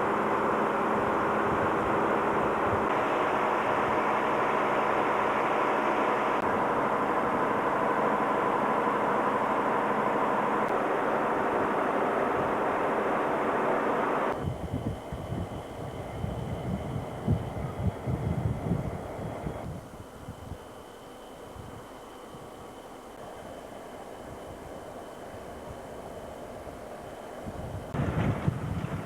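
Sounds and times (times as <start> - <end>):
faint hum: 0.0 - 29.0
train running: 0.0 - 29.0.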